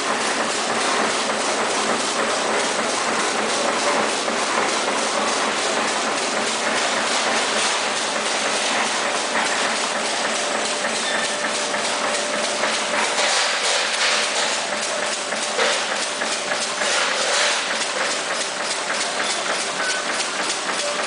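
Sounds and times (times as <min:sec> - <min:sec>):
bag sealing machine clattering: 0:00.0 - 0:21.0.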